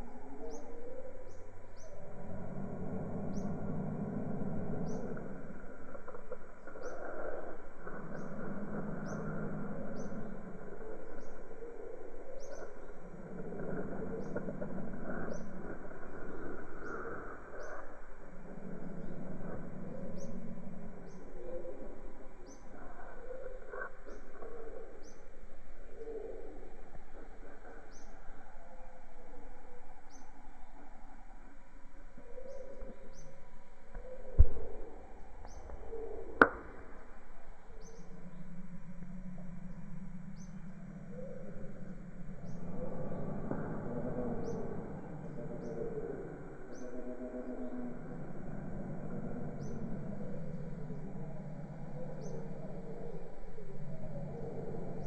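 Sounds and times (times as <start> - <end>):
birds chirping: 0.0 - 31.2, 32.2 - 55.0
jungle background noise: 0.0 - 55.0.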